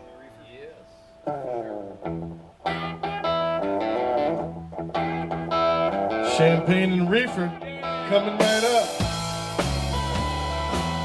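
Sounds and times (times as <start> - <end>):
electric guitar blues riff: 0.0 - 11.0.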